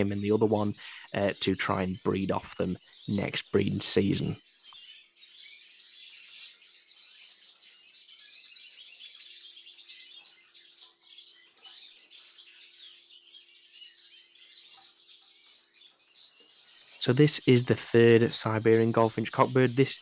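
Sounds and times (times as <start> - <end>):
finches chirping and twittering: 0.0 - 20.0.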